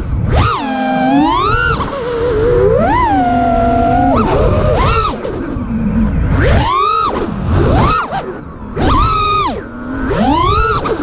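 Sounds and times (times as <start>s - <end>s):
quadcopter motors whining: 0.0s - 11.0s
wind rush: 0.0s - 11.0s.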